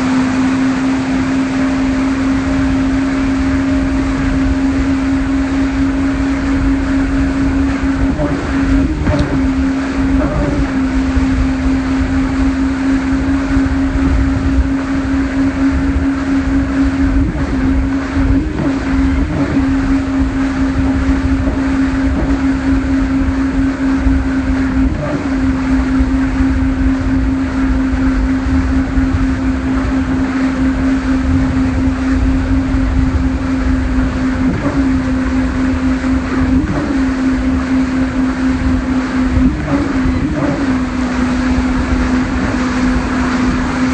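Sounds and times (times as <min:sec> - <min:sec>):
churning wake water: 0:00.0 - 0:43.9
speedboat engine drone: 0:00.0 - 0:43.9
wind on microphone: 0:00.0 - 0:43.9.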